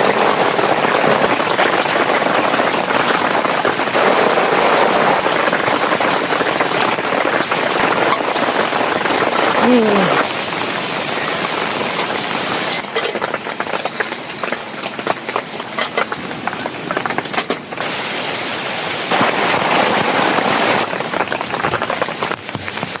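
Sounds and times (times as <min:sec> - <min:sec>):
rain drops tapping: 0:00.0 - 0:23.0.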